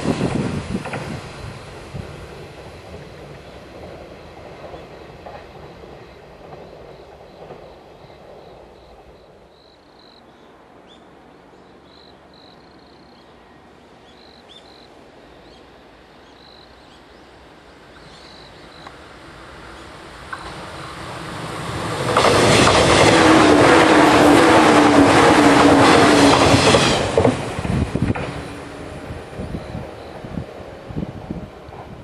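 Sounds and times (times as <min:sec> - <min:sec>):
electric train approaching: 0:00.0 - 0:32.0
train rumbling: 0:00.0 - 0:32.0.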